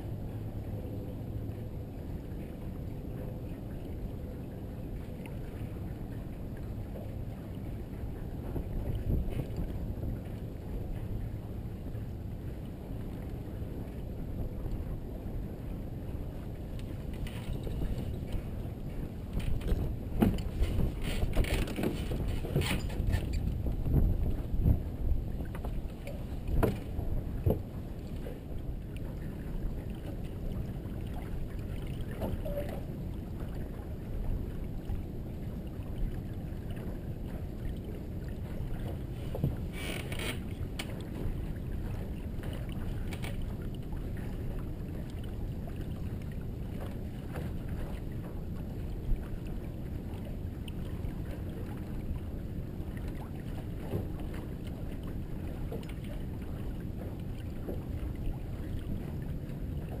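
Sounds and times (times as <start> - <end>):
wind and water rushing along hull: 0.0 - 60.0.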